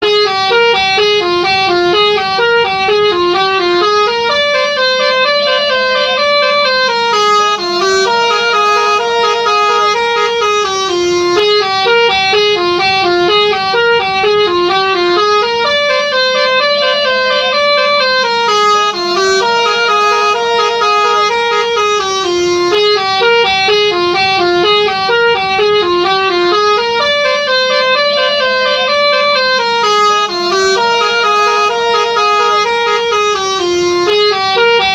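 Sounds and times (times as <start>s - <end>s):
musical bus horn melody: 0.0s - 34.9s.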